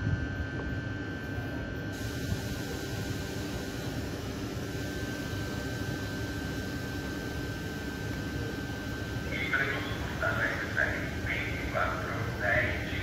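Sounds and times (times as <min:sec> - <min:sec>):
train low rumble and hiss: 0:00.0 - 0:13.0.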